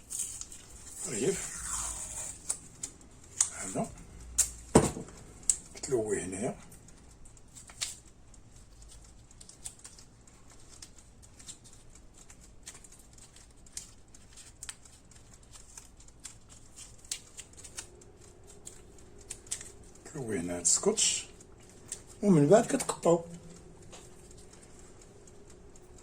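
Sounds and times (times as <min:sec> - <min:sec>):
electrical tape clicks and crackles: 0:00.0 - 0:26.0
faint steady hum: 0:00.0 - 0:26.0.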